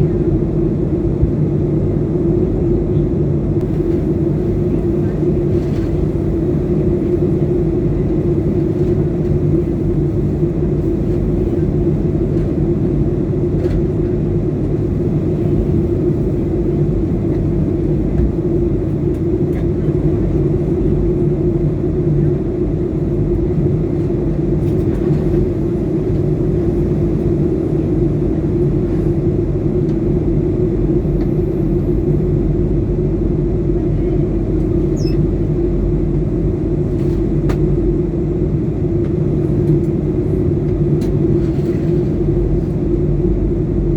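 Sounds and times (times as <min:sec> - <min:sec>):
jet engine cabin drone: 0:00.0 - 0:43.9.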